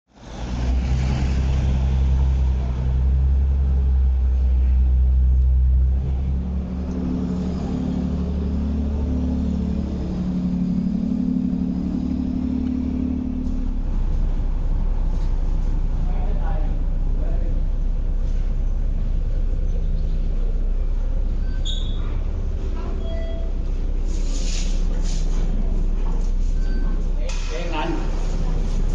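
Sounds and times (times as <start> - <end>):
engine idling: 0.2 - 28.9
higher drone: 0.4 - 28.9.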